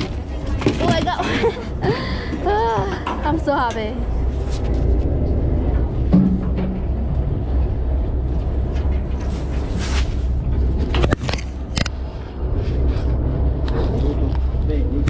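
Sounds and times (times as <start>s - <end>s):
boat engine rumble: 0.0s - 15.0s.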